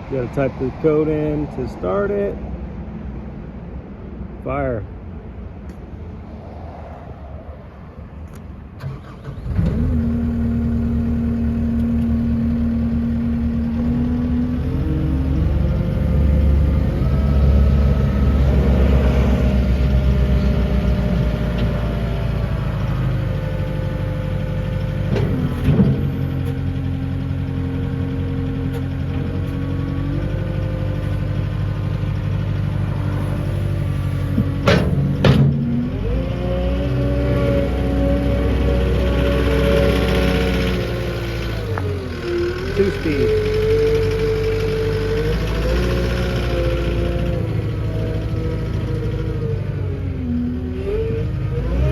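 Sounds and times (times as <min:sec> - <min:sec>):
diesel engine starting and running: 0:00.0 - 0:51.9.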